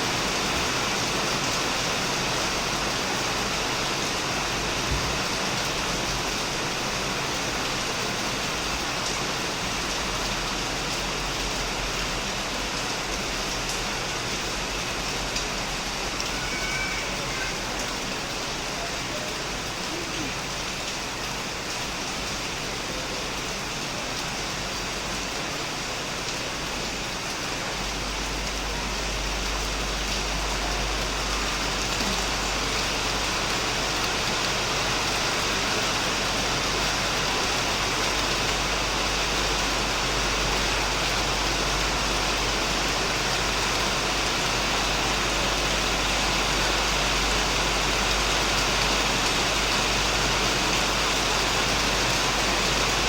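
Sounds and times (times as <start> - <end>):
heavy rain on a shed: 0.0 - 53.0.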